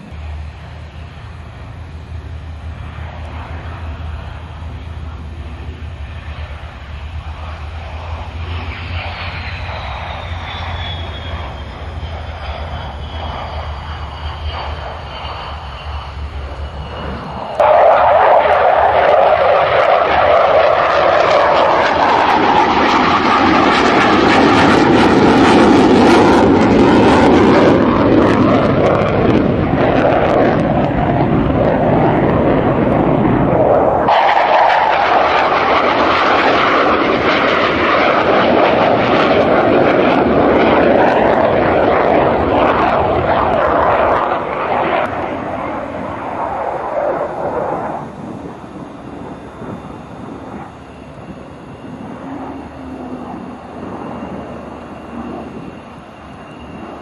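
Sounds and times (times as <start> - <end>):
jet engine high whine: 0.0 - 57.0
rough jet roar: 0.0 - 57.0.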